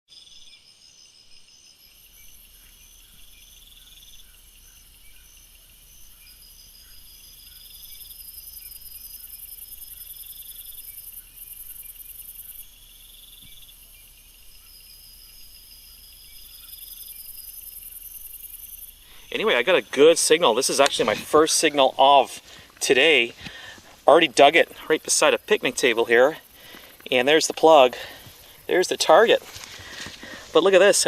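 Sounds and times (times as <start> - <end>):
crickets trilling: 0.1 - 31.0
insects buzzing: 0.1 - 31.0.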